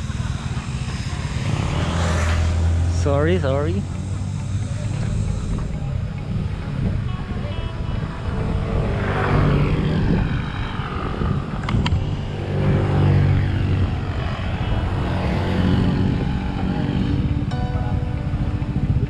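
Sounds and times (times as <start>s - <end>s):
motorcycle engines passing: 0.0s - 19.0s.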